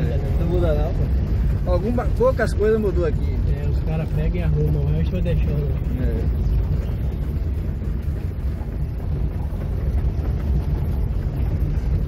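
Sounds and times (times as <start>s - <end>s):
car rolling over cobblestones: 0.0s - 12.0s.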